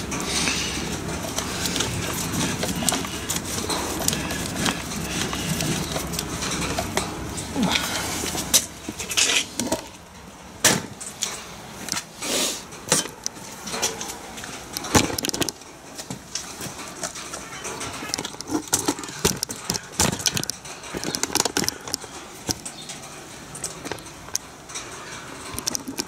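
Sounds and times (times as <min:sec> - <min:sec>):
screwdriver and metal parts clinking: 0:00.0 - 0:10.3, 0:11.0 - 0:26.0.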